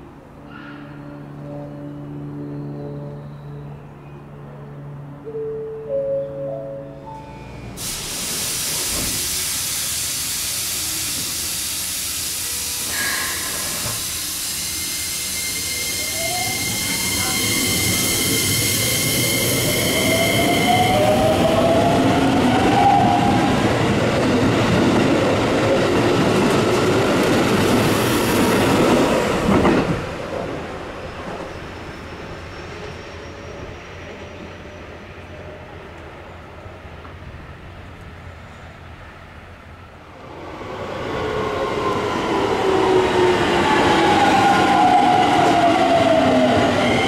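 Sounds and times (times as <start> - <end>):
train wheels rumbling on rail: 7.6 - 47.0.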